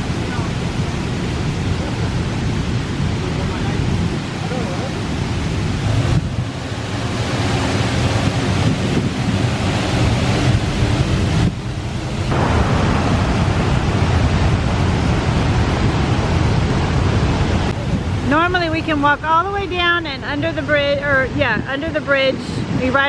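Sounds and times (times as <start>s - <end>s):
roar of rushing water: 0.0s - 23.0s.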